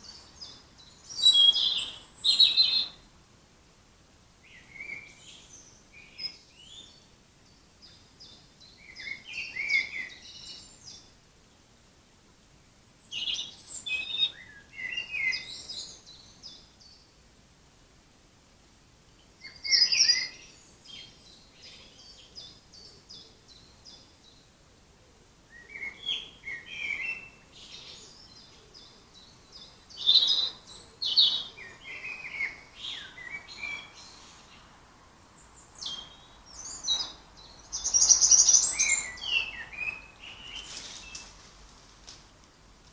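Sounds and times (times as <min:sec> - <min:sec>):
songbirds chirping and warbling: 0:00.0 - 0:42.9.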